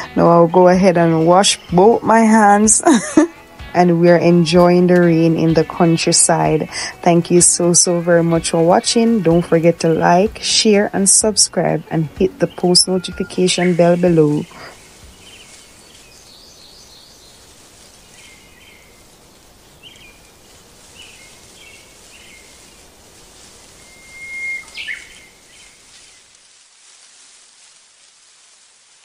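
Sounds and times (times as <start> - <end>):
birds chirping: 0.0 - 26.3
rain hissing: 0.0 - 29.0.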